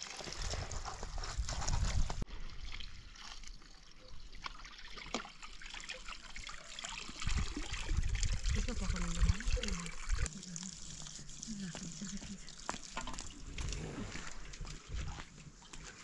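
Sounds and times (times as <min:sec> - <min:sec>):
water trickling and dripping: 0:02.2 - 0:16.0.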